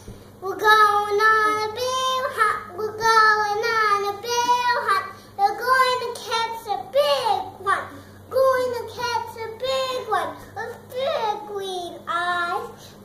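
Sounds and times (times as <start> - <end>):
girl singing: 0.4 - 12.8.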